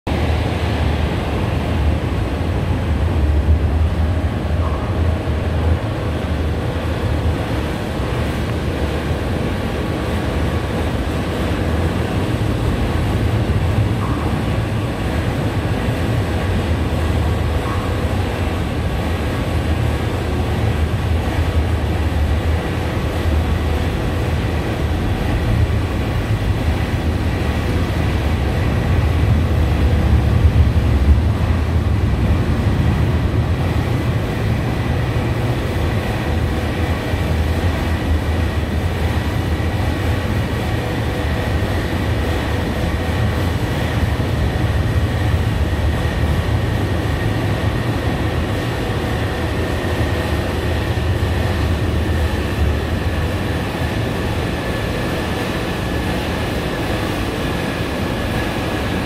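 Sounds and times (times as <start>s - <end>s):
train wheels rumbling on rails: 0.1s - 59.0s.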